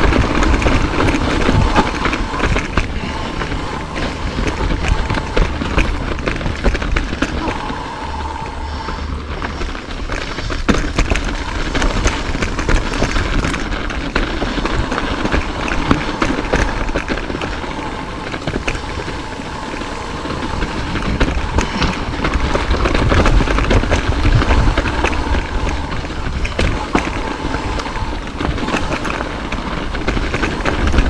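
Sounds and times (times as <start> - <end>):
bike rattling over bumps: 0.0 - 31.0
bike tyres on dirt: 0.0 - 31.0
wind rumble on microphone: 0.0 - 31.0.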